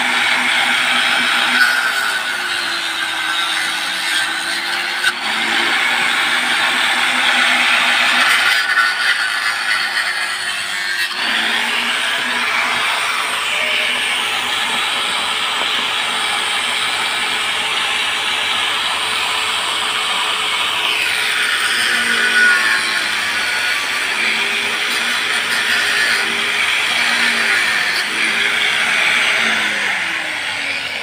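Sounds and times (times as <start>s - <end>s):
angle grinder grinding metal: 0.0s - 31.0s.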